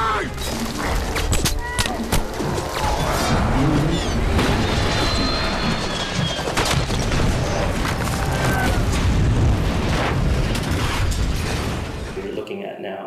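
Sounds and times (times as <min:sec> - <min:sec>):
explosions and gunfire: 0:00.4 - 0:12.4.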